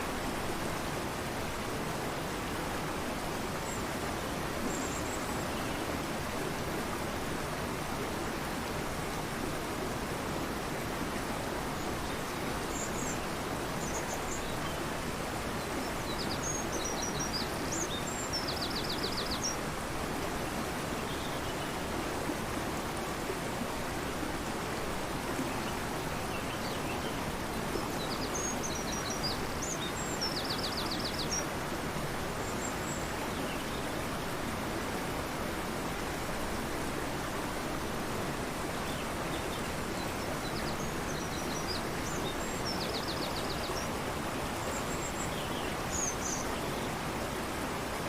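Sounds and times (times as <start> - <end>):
river rushing: 0.0 - 48.0.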